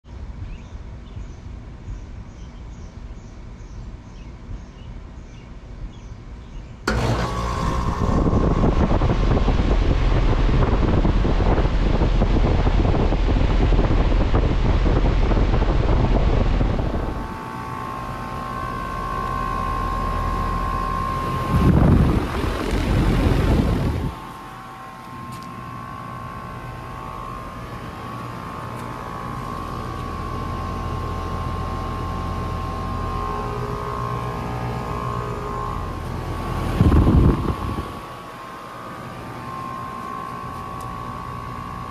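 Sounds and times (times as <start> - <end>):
air conditioner fan rushing: 0.1 - 41.9
steady high whine: 6.8 - 41.9.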